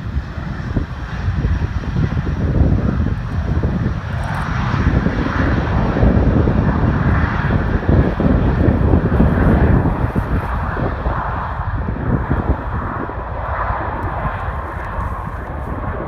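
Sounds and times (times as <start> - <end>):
jet airliner engines roaring: 0.0 - 16.0.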